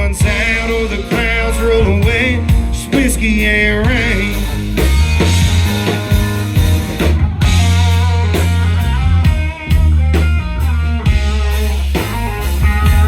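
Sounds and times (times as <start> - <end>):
electric guitar lead: 0.0 - 13.0
heavy bass: 0.0 - 13.0
steady drum beat: 0.0 - 13.0.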